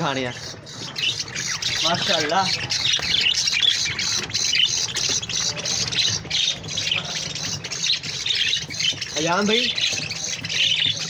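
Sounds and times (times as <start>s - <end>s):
budgerigars chattering and squawking: 0.0s - 11.0s.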